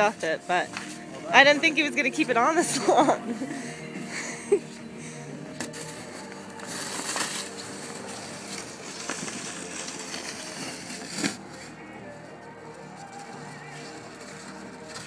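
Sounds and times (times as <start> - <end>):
plastic snow shovel scraping: 0.0 - 12.2, 12.9 - 15.0.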